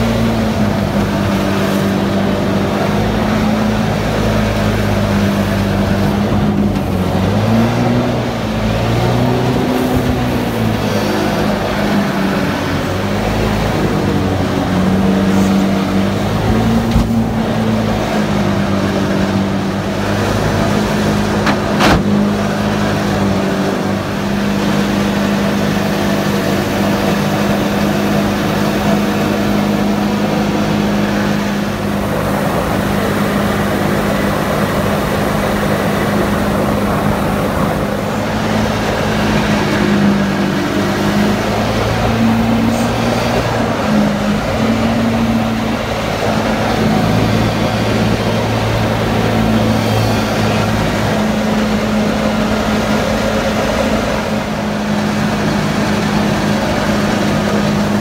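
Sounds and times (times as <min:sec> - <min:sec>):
jet boat engine running: 0:00.0 - 0:58.0.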